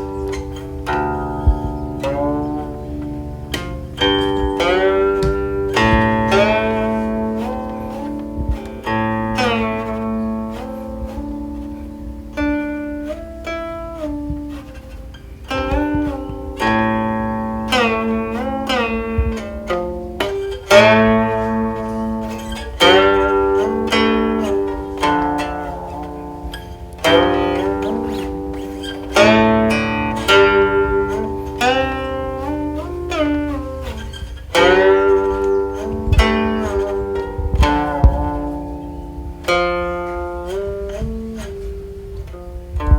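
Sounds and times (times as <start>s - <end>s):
plucked zither solo: 0.0s - 42.9s.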